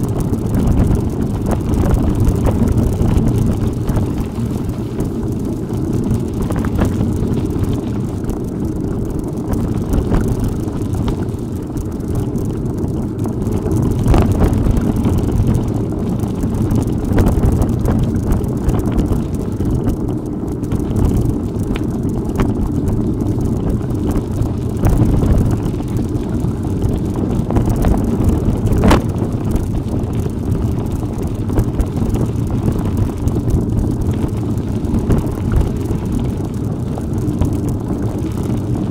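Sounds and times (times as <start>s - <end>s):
bicycle knocking and rattling: 0.0s - 38.9s
wind buffeting microphone: 0.0s - 38.9s.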